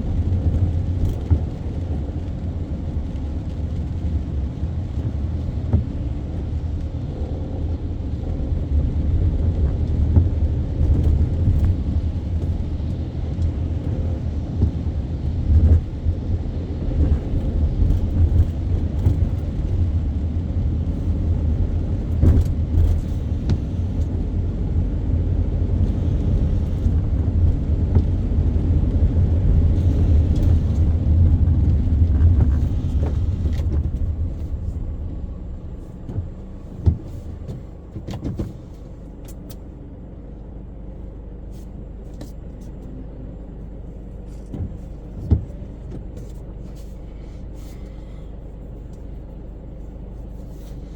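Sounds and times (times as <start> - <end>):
car driving rumble: 0.0 - 50.9.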